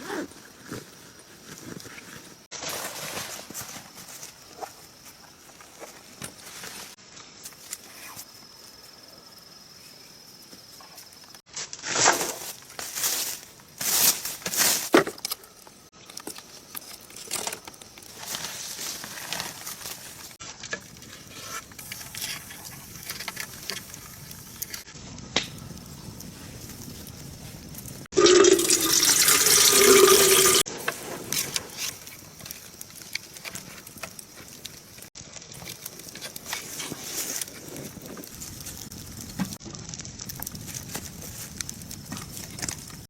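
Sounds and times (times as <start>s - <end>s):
rustling and crackling: 0.0s - 9.0s, 10.5s - 28.2s, 30.2s - 43.0s.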